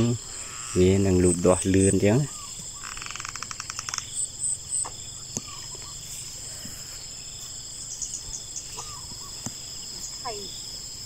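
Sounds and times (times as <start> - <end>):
short calls: 0.0 - 10.5
insects trilling: 0.0 - 11.0.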